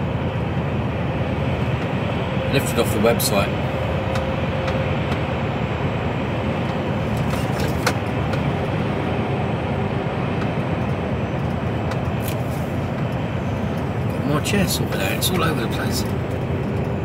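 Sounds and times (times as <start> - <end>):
lorry engine and road noise: 0.0 - 17.0.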